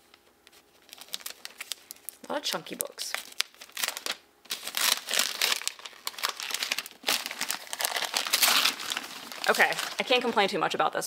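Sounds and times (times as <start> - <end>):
paper tearing and crumpling: 0.8 - 2.1, 2.8 - 10.4.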